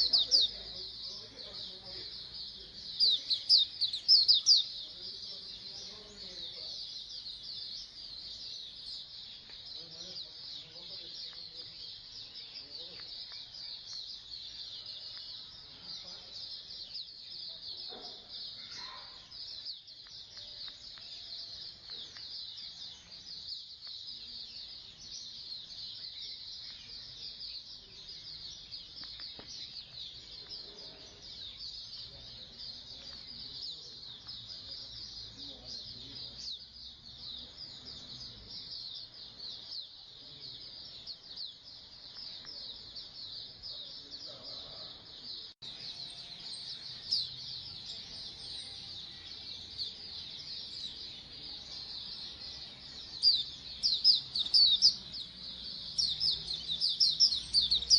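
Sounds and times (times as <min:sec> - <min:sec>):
birds chirping and twittering: 0:00.0 - 0:57.9.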